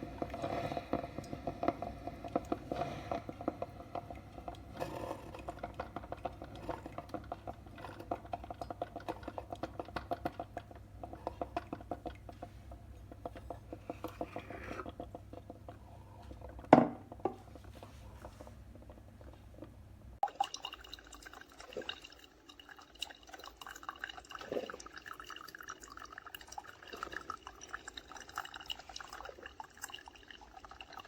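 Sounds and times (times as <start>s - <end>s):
coffee maker crackling and sputtering: 0.0s - 31.0s.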